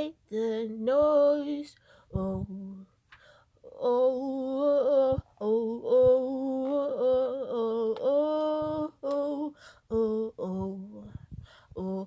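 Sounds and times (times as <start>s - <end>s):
person singing a cappella: 0.0s - 3.0s, 3.6s - 12.0s.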